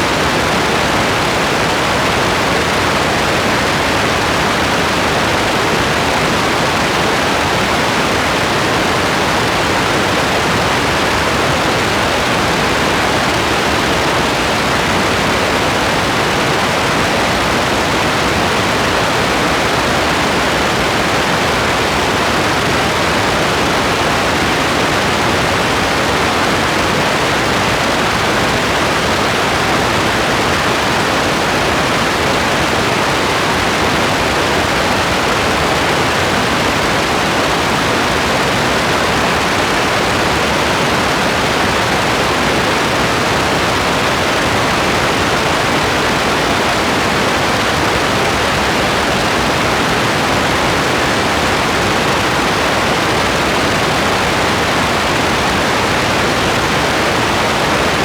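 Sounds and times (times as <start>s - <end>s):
steady dense rain: 0.0s - 58.0s.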